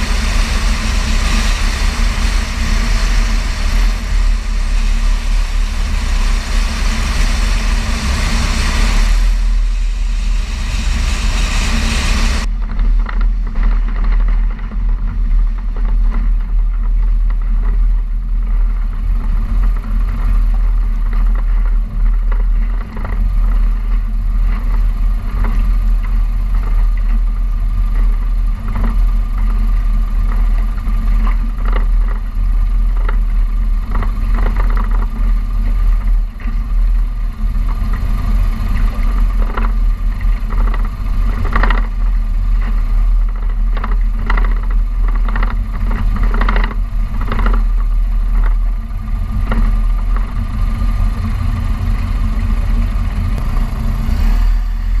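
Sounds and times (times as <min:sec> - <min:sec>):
light aircraft engine drone: 0:00.0 - 0:55.0
low rumble on microphone: 0:00.0 - 0:55.0
knocks and rattles: 0:10.4 - 0:55.0.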